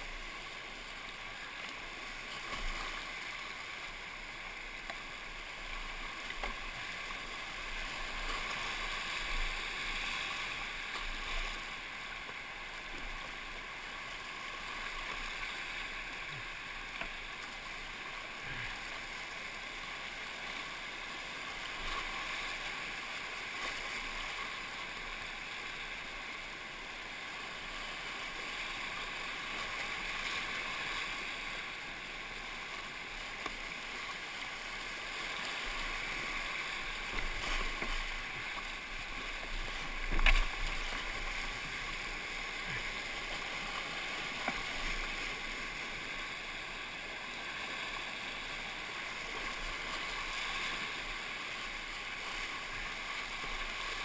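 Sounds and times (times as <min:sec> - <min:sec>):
whitewater rapid rushing: 0:00.0 - 0:54.0.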